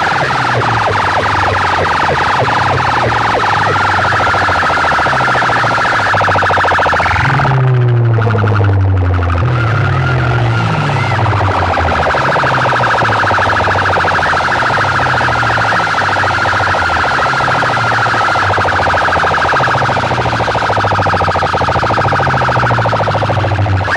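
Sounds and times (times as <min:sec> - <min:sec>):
bass line: 0:00.0 - 0:23.9
siren-like electronic tone: 0:00.0 - 0:23.9.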